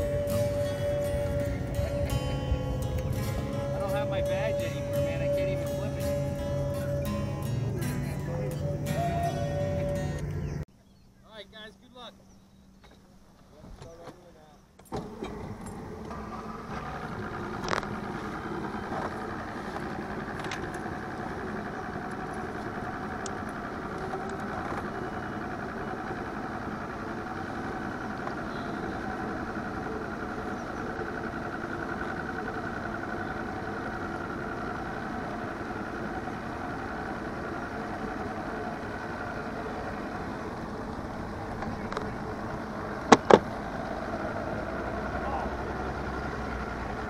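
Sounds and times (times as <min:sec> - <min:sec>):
outboard motor idling: 0:00.0 - 0:10.7, 0:14.8 - 0:47.0.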